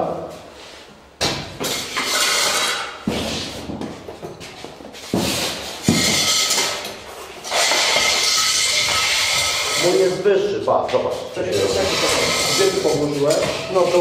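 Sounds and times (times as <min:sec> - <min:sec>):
metal stands scraping and knocking: 0:01.6 - 0:10.3, 0:10.9 - 0:14.0.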